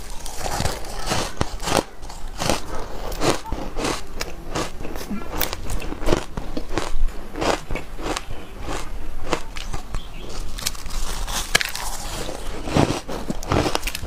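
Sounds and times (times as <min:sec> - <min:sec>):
shaved ice being chewed: 0:00.0 - 0:14.0.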